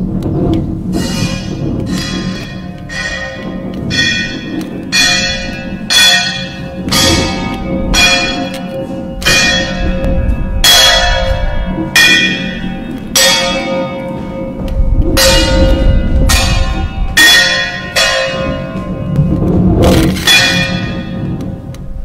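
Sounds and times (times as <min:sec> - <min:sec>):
low rumble: 0:00.0 - 0:22.0
bell-like struck metallic tones: 0:01.0 - 0:21.6.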